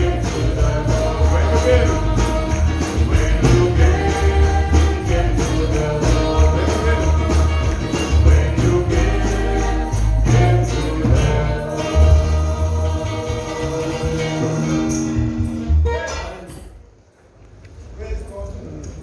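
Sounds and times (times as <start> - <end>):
live gospel band music: 0.0 - 16.7
tambourine jingling: 0.0 - 16.9.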